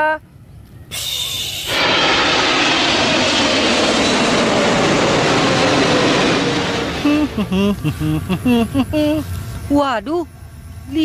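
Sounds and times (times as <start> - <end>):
jet airliner flying over: 0.3 - 9.7.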